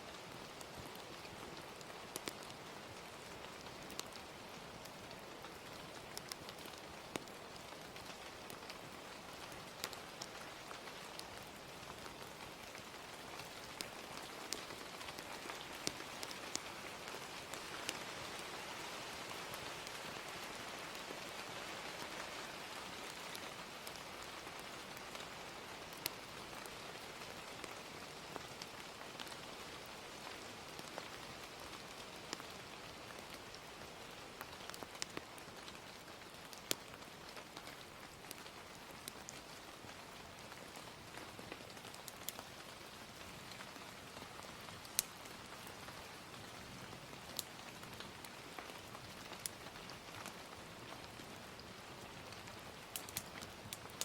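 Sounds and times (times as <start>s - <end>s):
gentle rain: 0.0s - 54.0s
fire crackling and popping: 0.2s - 22.0s, 22.6s - 54.0s.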